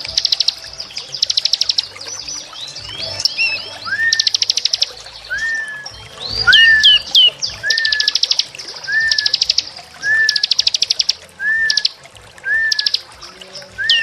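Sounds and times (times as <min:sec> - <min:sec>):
songbird whistle and trill: 0:00.0 - 0:14.0.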